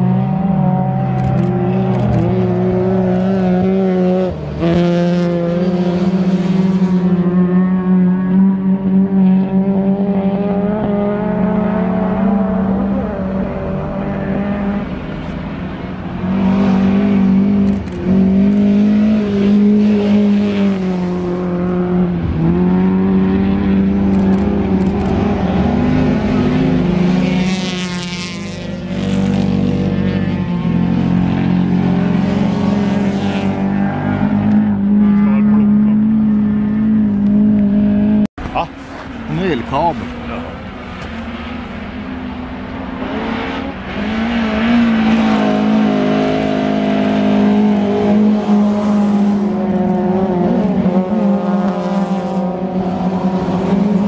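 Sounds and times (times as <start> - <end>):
racing car engines at high revs: 0.0 - 54.0.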